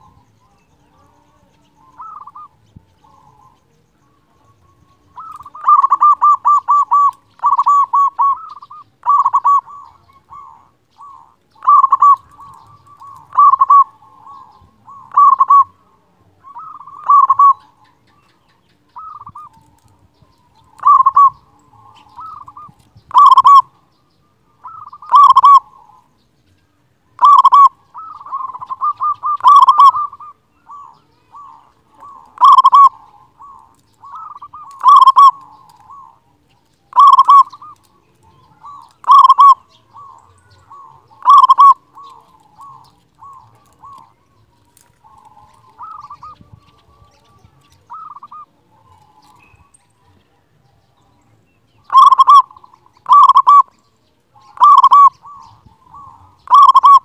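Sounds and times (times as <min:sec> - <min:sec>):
dove cooing: 0:00.0 - 0:26.2, 0:27.2 - 0:51.1, 0:51.8 - 0:57.0.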